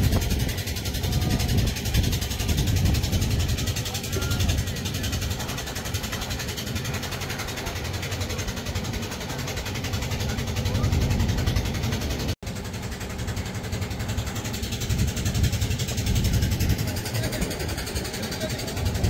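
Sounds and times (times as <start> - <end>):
boat engine humming: 0.0 - 19.0
hiss of water and wind: 0.0 - 19.0.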